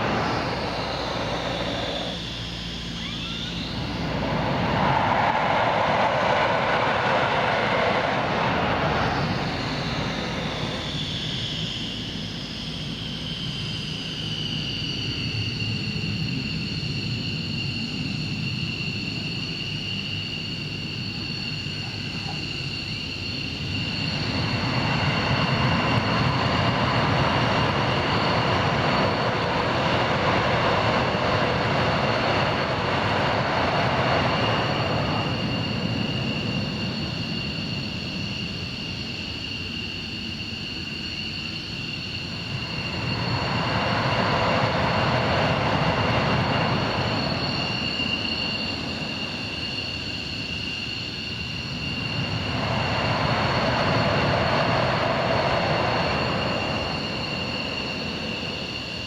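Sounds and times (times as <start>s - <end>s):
jet engine rumble: 0.0s - 59.0s
jet engines turbine whine: 0.0s - 59.0s.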